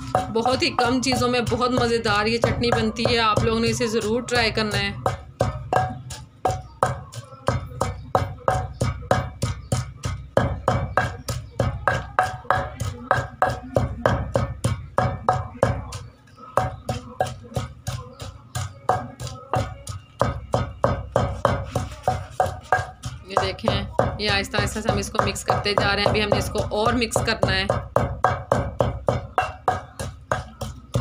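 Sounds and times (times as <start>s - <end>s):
wooden pestle pounding in mortar: 0.0s - 31.0s.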